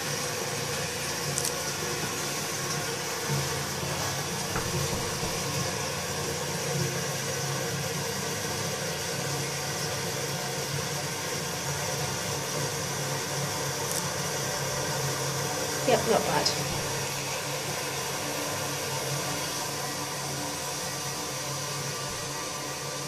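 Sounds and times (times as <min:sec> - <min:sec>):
toilet cistern refilling: 0:00.0 - 0:23.0.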